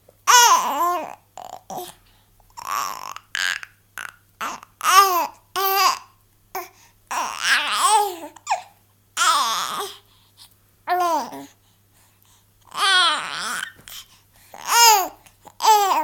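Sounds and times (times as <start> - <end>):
baby babbling with hiccups: 0.2 - 10.0, 10.9 - 11.6, 12.7 - 13.9, 14.6 - 16.0.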